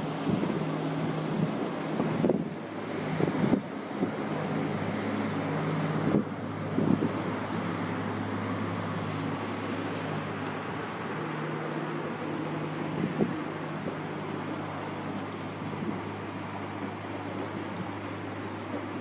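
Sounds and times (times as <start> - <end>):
ship engine drone: 0.0 - 19.0
wind buffeting microphone: 0.0 - 19.0.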